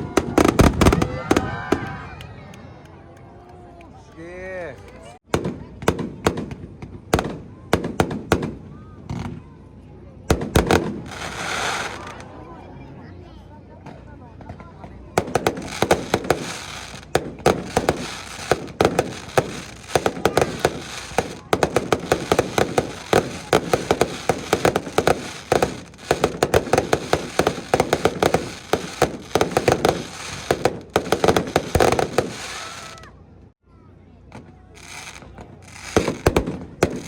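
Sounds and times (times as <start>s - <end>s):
fireworks bangs and crackles: 0.0s - 2.2s, 5.2s - 12.3s, 13.8s - 33.1s, 34.3s - 37.0s.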